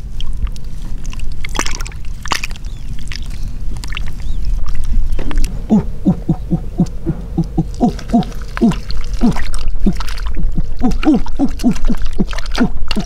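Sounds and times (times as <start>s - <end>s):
steady low rumble: 0.0s - 13.0s
water sloshing and splashing: 0.0s - 13.0s.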